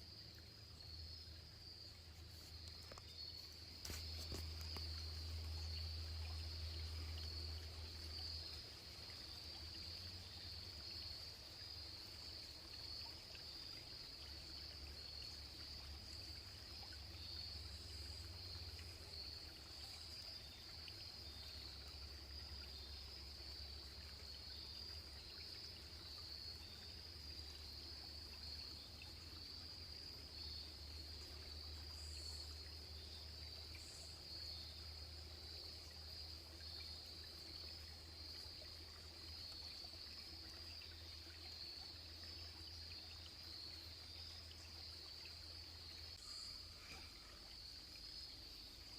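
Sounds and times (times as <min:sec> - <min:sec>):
insects trilling: 0:00.0 - 0:48.9
stream running: 0:00.0 - 0:48.9.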